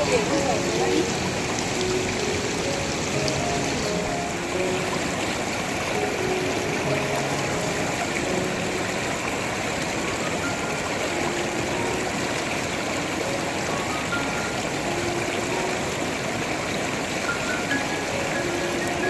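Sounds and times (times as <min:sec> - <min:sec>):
faint music: 0:00.0 - 0:19.0
stream rushing: 0:00.0 - 0:19.0.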